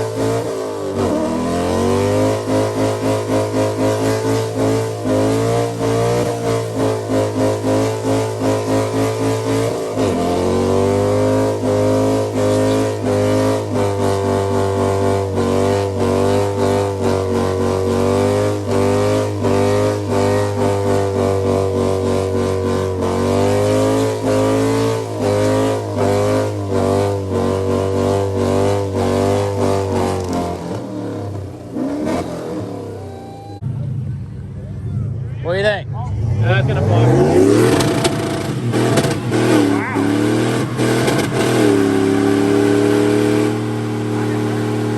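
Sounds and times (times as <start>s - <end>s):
truck engine revving high: 0.0s - 44.9s.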